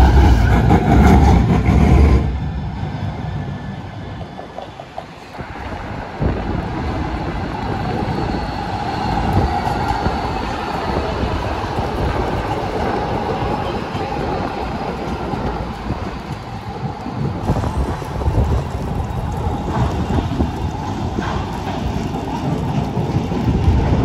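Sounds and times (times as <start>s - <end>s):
tram wheels rumbling on rail: 0.0s - 24.0s
tram whine: 0.0s - 24.0s.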